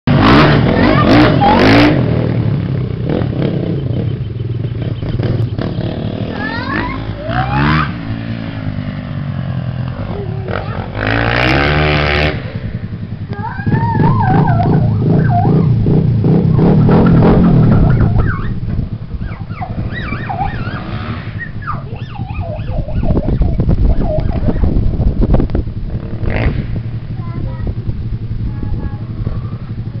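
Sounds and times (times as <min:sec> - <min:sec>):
motocross engine revving: 0:00.1 - 0:30.0.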